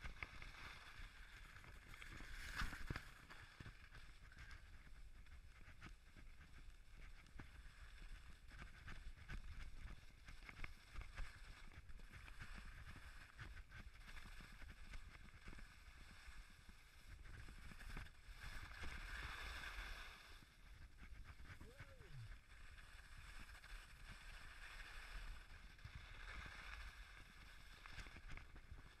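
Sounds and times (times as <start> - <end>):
skis scraping over snow: 0.0 - 29.0
wind rumble on microphone: 0.0 - 29.0.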